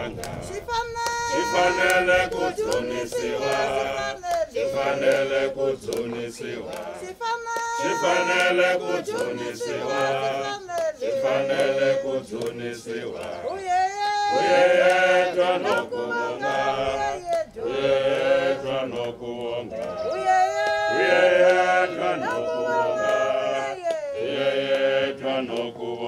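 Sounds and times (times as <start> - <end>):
group singing a hymn: 0.0 - 26.0.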